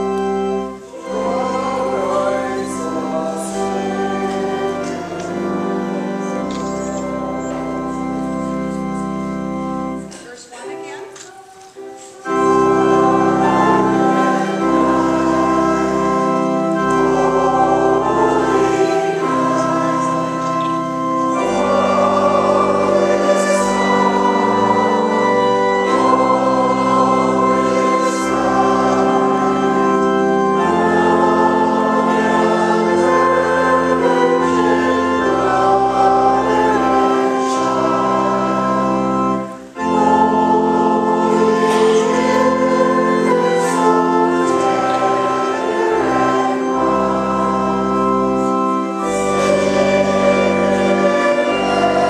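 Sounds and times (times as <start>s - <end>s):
group of voices singing: 0.0s - 8.3s, 12.0s - 52.0s
organ playing: 0.0s - 52.0s.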